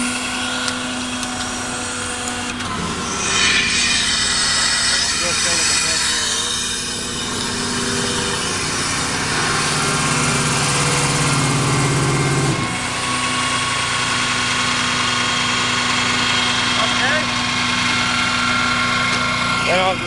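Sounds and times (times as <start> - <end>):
air compressor running: 0.0 - 20.0.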